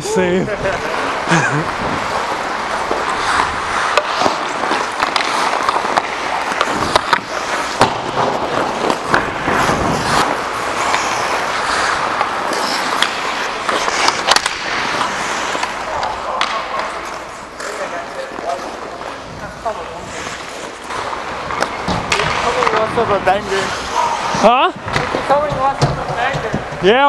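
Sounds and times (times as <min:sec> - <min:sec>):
skate blades scraping ice: 0:00.1 - 0:26.8
hockey sticks and puck clacking: 0:00.6 - 0:27.0.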